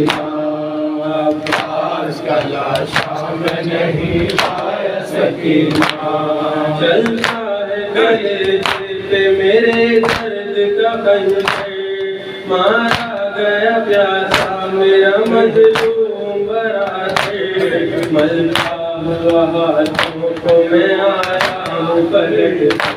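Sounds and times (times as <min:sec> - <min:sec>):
group of men chanting: 0:00.0 - 0:22.9
man singing a lament into microphone: 0:00.0 - 0:22.9.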